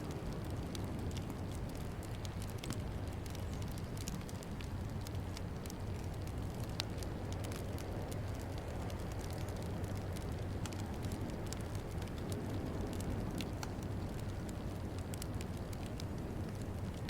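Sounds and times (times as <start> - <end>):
sharp pops of fire: 0.0 - 17.0
steady low rumble: 0.0 - 17.0
wood fire crackling: 0.0 - 17.0.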